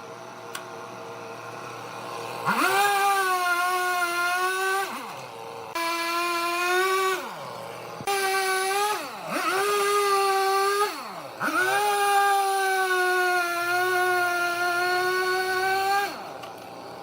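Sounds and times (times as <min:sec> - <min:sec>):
high-revving power tool: 0:00.0 - 0:17.0.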